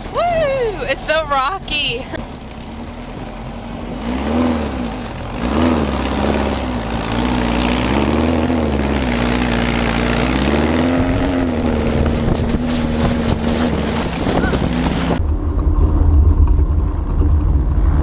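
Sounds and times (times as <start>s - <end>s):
vehicle engine revving under load: 2.1s - 18.0s.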